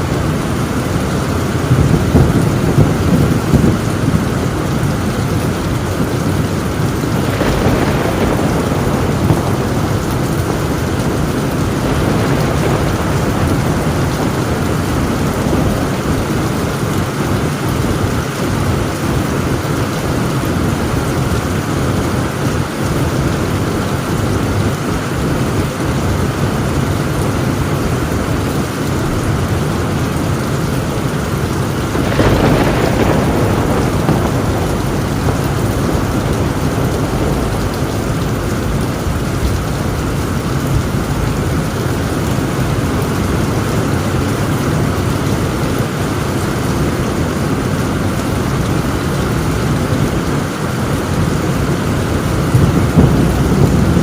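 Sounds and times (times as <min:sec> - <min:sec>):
heavy rain on a tin roof: 0:00.0 - 0:54.0
thunder rolling: 0:00.0 - 0:54.0.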